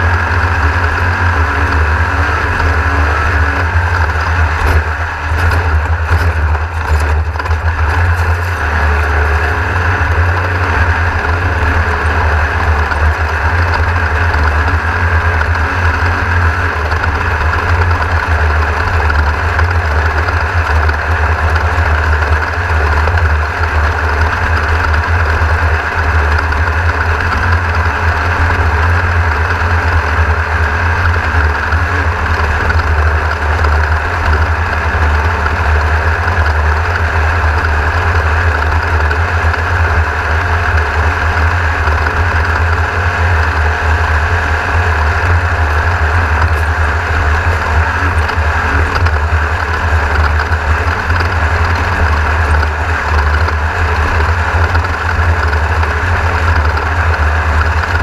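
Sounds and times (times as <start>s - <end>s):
race car engine rumbling: 0.0s - 58.0s.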